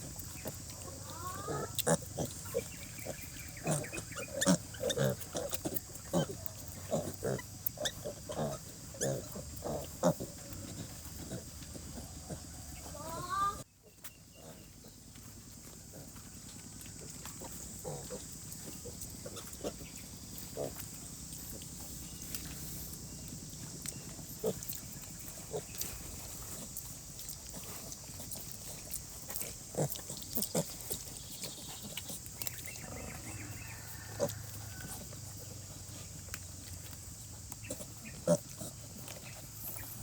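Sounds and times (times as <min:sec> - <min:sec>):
pigs grunting: 0:00.0 - 0:13.6, 0:14.3 - 0:40.0.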